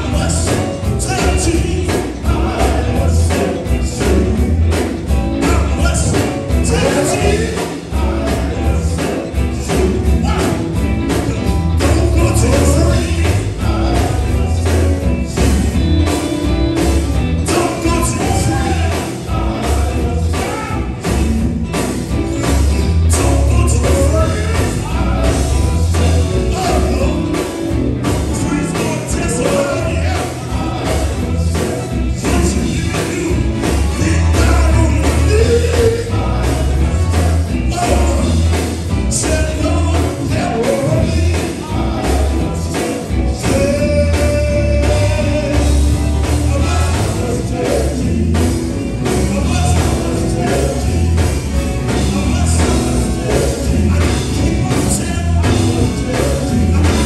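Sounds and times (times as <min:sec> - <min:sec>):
male singers singing: 0:00.0 - 0:16.3, 0:17.2 - 0:21.8, 0:23.0 - 0:27.7, 0:28.3 - 0:57.0
gospel band playing: 0:00.0 - 0:57.0
heavy bass line: 0:00.0 - 0:57.0.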